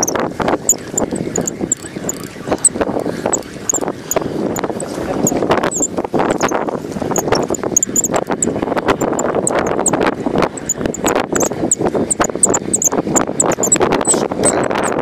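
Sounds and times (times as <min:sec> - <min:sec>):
fishing reel clicking: 0:00.0 - 0:04.7, 0:05.3 - 0:10.0, 0:10.6 - 0:15.0.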